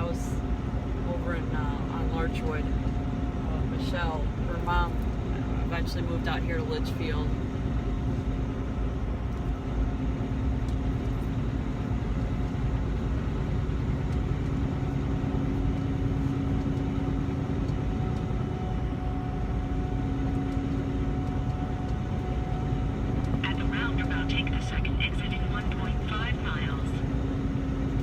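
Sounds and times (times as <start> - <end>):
truck engine and road drone: 0.0 - 28.0.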